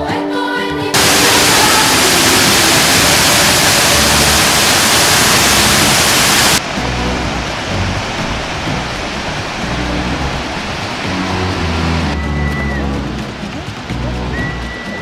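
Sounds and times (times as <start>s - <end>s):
waterfall rushing: 1.0s - 15.0s.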